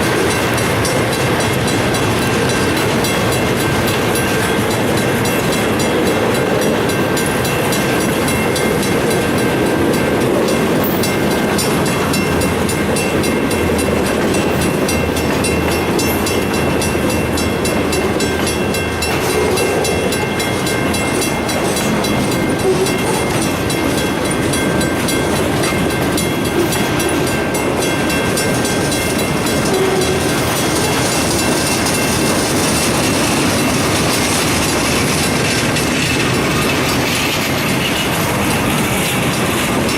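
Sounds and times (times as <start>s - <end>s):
clickety-clack over rail joints: 0.0s - 39.9s
freight train wheels rumbling: 0.0s - 39.9s.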